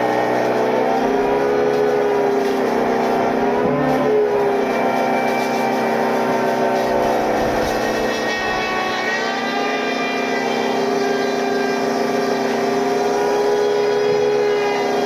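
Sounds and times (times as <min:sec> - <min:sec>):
woodworking machine motor hum: 0:00.0 - 0:15.0.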